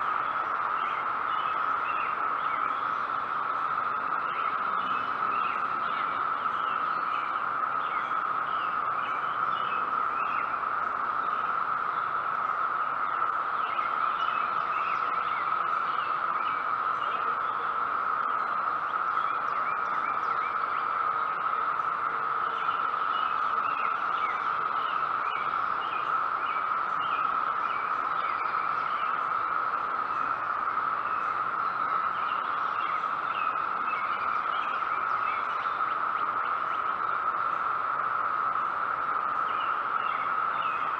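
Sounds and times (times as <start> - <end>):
cicadas high drone: 0.0 - 40.9.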